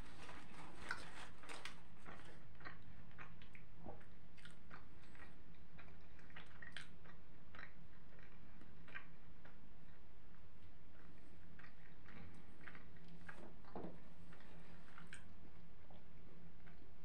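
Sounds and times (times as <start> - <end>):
person chewing food: 0.0 - 16.9.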